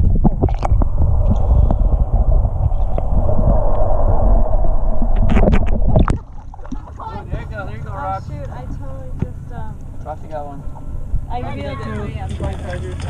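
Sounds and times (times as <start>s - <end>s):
muffled underwater rumble: 0.0s - 13.0s
steady hum: 0.0s - 13.0s.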